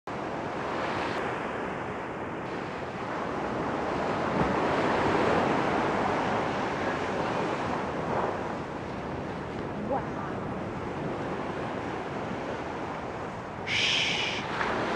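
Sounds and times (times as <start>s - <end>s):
ocean surf rushing: 0.2s - 14.9s.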